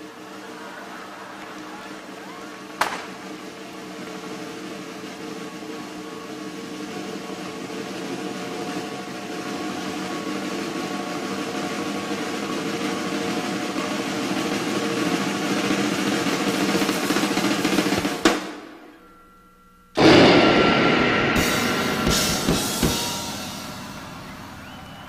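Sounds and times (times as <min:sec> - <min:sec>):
snare drum roll: 0:00.0 - 0:18.8, 0:20.0 - 0:25.0
rock band droning chord: 0:02.6 - 0:25.0.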